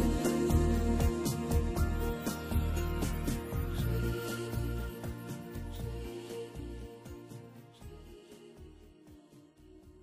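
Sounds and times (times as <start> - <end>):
music with steady beat and bass: 0.0 - 10.0.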